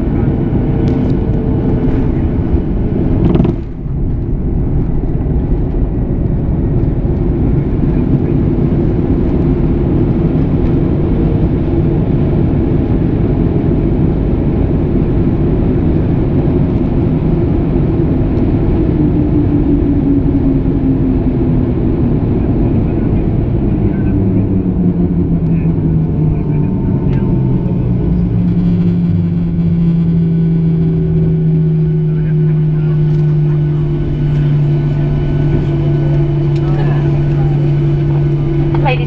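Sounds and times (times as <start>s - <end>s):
jet engine cabin noise: 0.0s - 39.0s
low hum falling in pitch: 0.0s - 39.0s.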